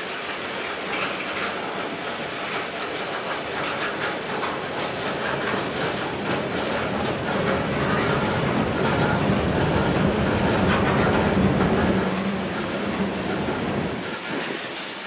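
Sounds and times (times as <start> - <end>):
clicking over rail joints: 0.0 - 15.0
steel wheels rumbling on rails: 0.0 - 15.0.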